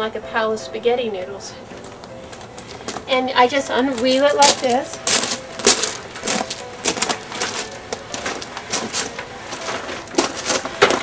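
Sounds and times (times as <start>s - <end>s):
footsteps on gravel: 1.7s - 11.0s.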